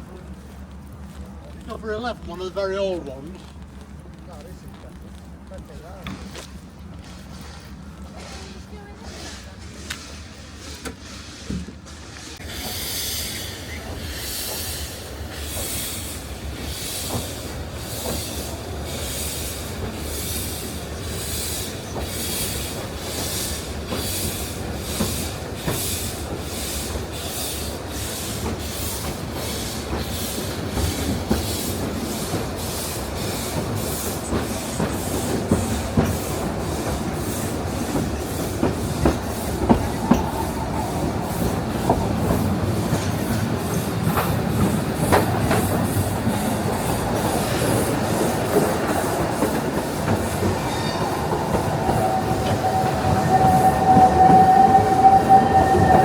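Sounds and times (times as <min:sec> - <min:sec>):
steam locomotive chuffing: 0:00.0 - 0:56.0
train wheels clicking over rail joints: 0:00.0 - 0:56.0.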